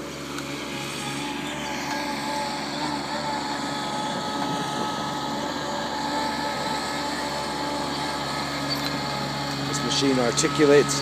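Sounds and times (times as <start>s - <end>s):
loader engine droning: 0.0s - 11.0s
thin high whine: 0.0s - 11.0s.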